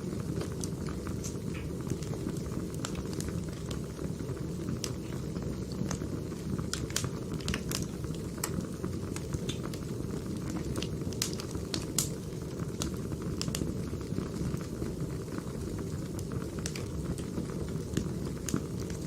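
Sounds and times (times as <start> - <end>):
burning logs crackling: 0.0 - 19.0
low rumble of flames: 0.0 - 19.0.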